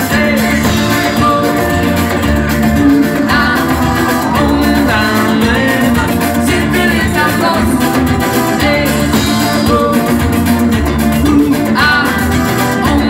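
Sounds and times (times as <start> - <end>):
live band playing latin pop: 0.0 - 13.0
woman singing: 0.0 - 13.0.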